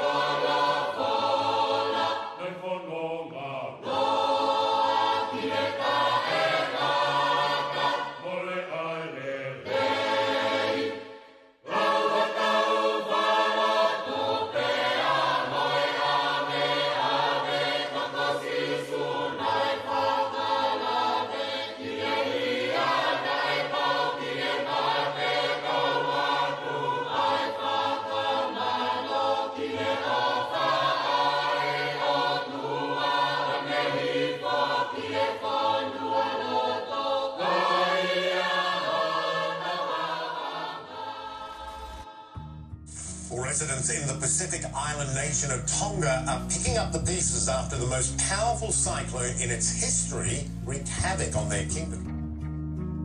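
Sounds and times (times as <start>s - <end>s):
choir singing sustained chords: 0.0s - 53.0s.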